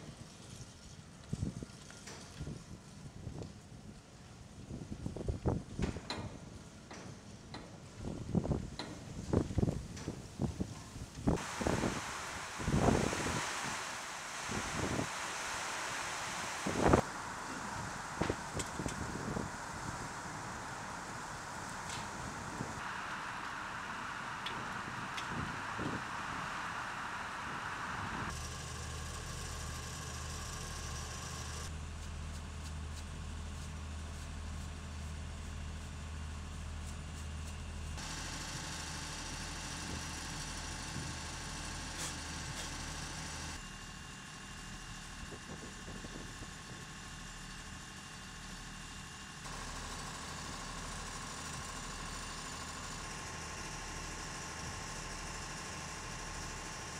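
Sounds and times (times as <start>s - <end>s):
low machine hum: 11.3s - 56.9s.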